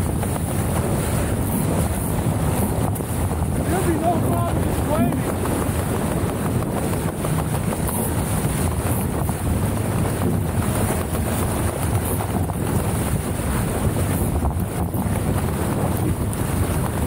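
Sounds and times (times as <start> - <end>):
water sounds: 0.0 - 17.0
wind buffeting microphone: 0.0 - 17.0.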